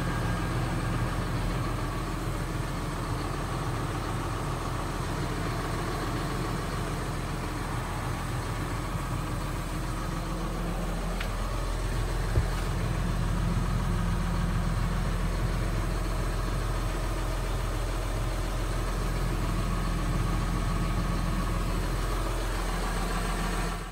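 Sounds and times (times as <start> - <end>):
tractor diesel engine idling: 0.0 - 23.9.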